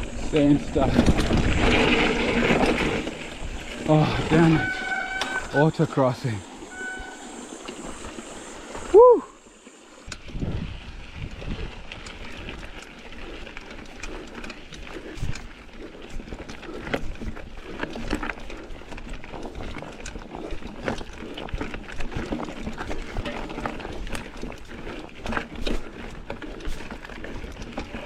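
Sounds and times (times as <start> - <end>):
bike frame and chain rattling: 0.0 - 28.0
bike tyres crunching on rocks: 0.0 - 28.0.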